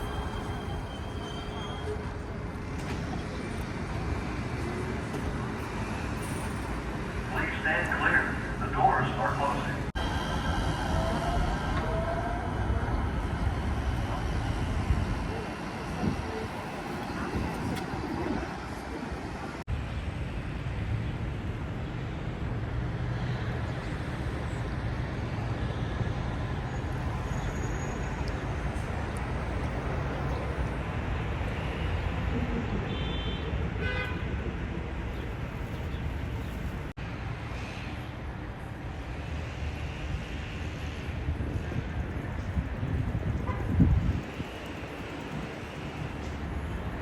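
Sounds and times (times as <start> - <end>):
rumble of passing vehicles: 0.0 - 47.0.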